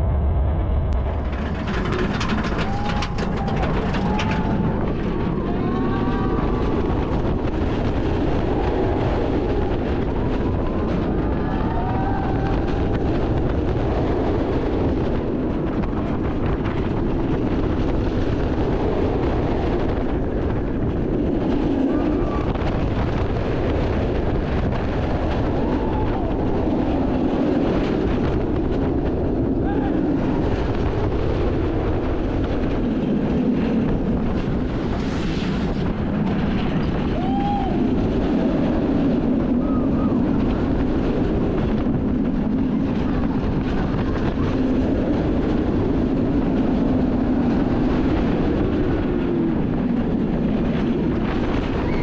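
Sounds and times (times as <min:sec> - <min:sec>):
roller coaster train rumbling on track: 0:00.0 - 0:52.0.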